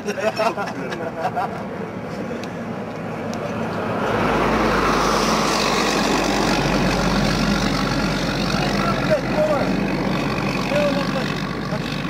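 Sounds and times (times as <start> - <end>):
heavy truck driving past: 2.0 - 12.0.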